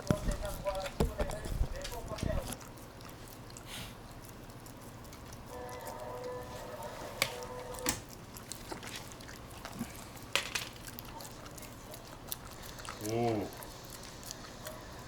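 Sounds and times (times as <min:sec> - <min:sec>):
dog licking and chewing: 0:00.0 - 0:15.0.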